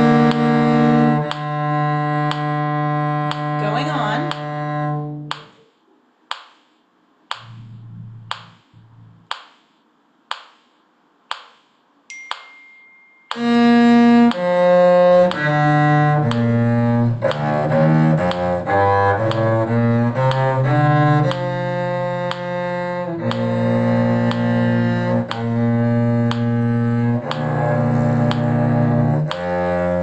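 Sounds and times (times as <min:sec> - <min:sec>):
metronome clicking: 0:00.0 - 0:03.6, 0:04.2 - 0:05.7, 0:07.3 - 0:09.6, 0:11.3 - 0:30.0
bowed cello playing held notes: 0:00.0 - 0:05.5, 0:07.4 - 0:09.3, 0:13.3 - 0:30.0.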